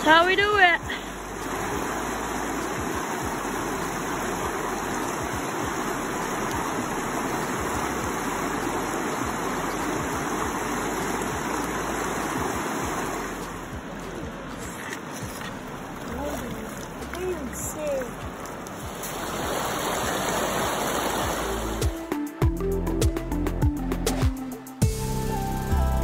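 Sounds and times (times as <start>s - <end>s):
brook water rushing over rocks: 0.0s - 22.1s.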